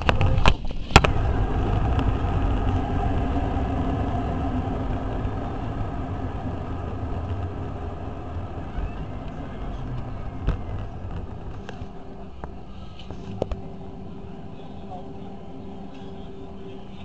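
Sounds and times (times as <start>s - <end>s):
jet engine hum in cabin: 0.0s - 17.0s.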